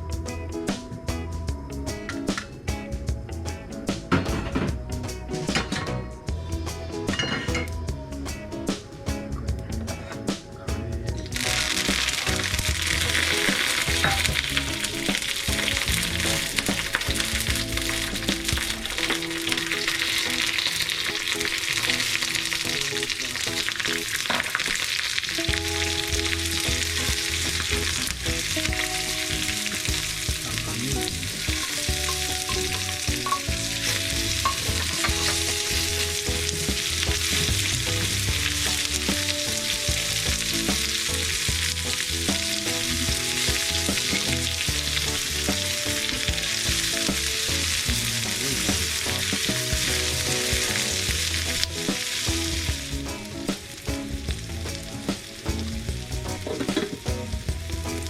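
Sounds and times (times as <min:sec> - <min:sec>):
food sizzling in hot oil: 0:11.2 - 0:58.0.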